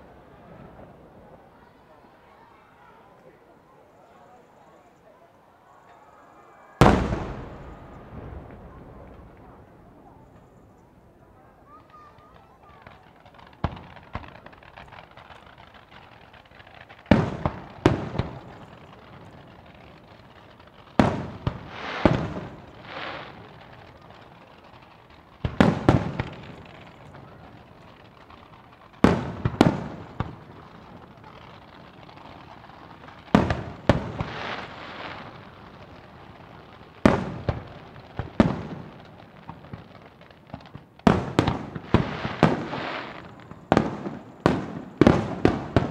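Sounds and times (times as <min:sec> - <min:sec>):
faint fireworks pops: 0:00.0 - 0:45.9
fireworks bursting with sharp bangs: 0:00.0 - 0:45.9.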